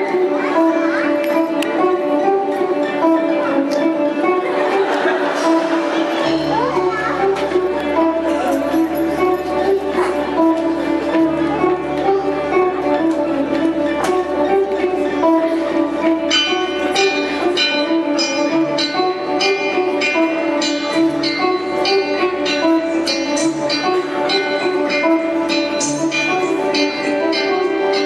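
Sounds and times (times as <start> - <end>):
plucked ringing string notes: 0.0 - 28.0.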